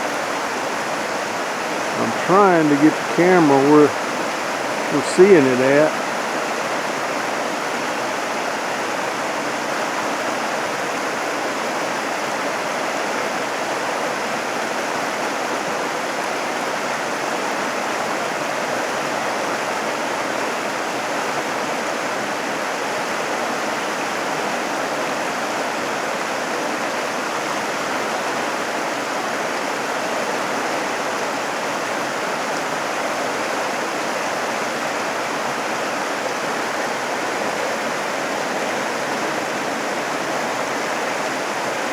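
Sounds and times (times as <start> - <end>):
water rushing: 0.0 - 41.9.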